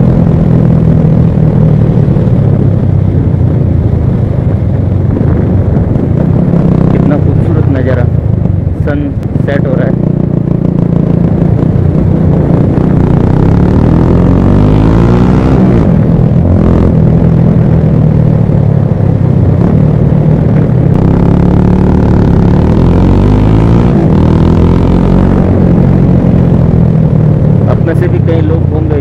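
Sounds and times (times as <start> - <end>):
loud wind noise: 0.0 - 29.0
motorcycle engine cruising: 0.0 - 29.0.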